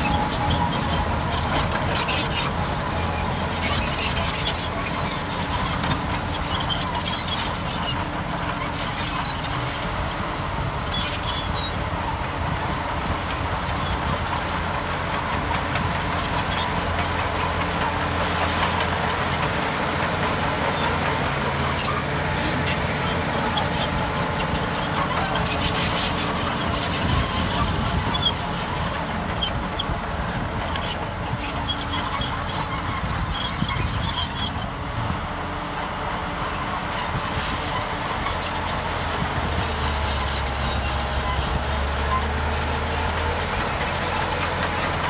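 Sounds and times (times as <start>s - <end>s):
bulldozer diesel engine: 0.0s - 45.0s
steel tracks squealing: 0.0s - 45.0s.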